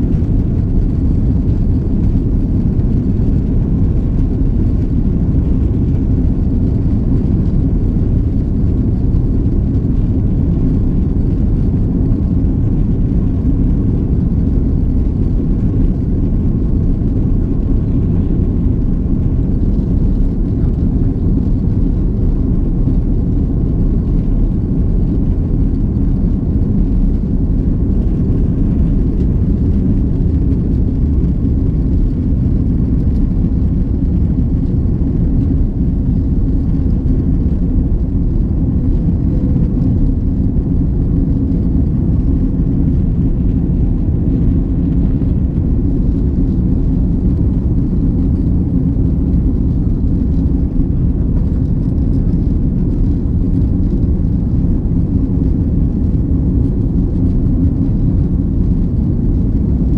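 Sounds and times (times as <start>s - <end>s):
jet engines low rumble: 0.0s - 59.9s.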